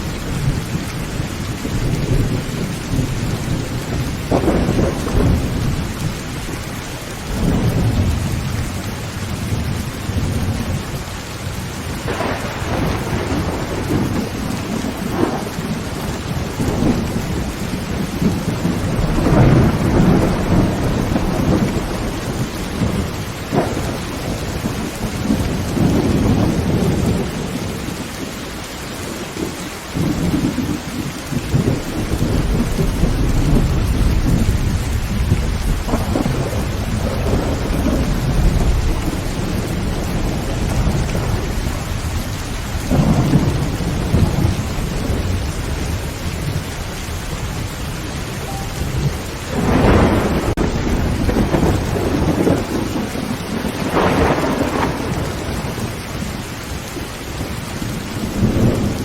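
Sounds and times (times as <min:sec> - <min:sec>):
thunder rumbling: 0:00.0 - 0:28.3, 0:29.0 - 0:59.0
heavy rain on a tin roof: 0:00.0 - 0:59.0.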